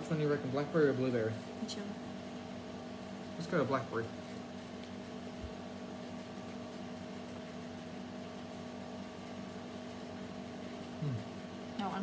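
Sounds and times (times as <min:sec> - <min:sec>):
appliance humming: 0:00.0 - 0:12.0.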